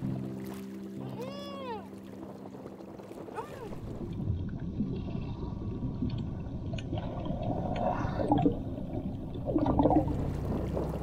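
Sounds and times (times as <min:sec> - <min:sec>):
muffled underwater sloshing: 0:00.0 - 0:11.0
water gurgles: 0:00.0 - 0:11.0.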